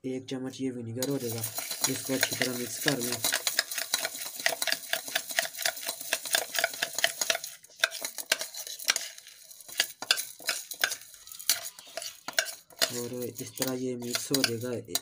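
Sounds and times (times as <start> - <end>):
metal spoon scraping steel cup: 1.0 - 15.0.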